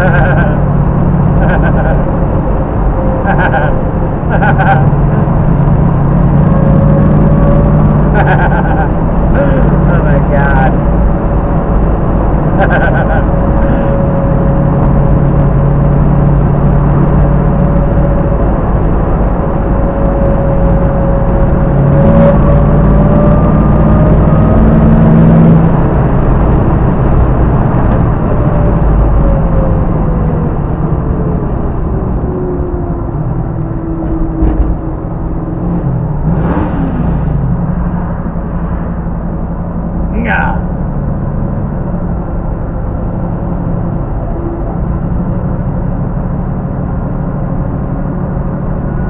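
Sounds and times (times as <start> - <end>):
car engine running: 0.0 - 49.0
road rumble: 0.0 - 49.0.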